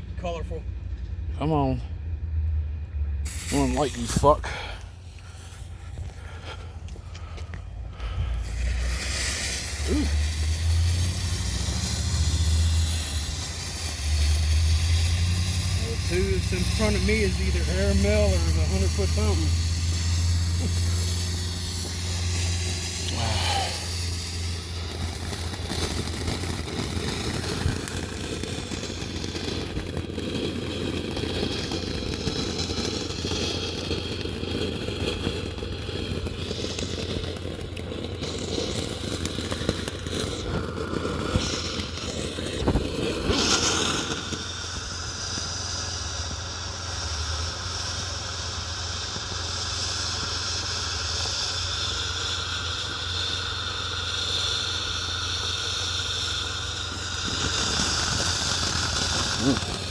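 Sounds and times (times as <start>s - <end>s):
firework fountains hissing: 0.1s - 59.9s.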